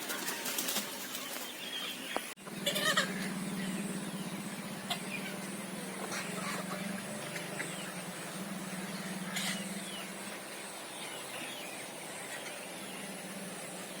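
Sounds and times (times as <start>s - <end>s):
constant high-pitched tone: 0.0s - 14.0s
steady low hum: 2.4s - 14.0s.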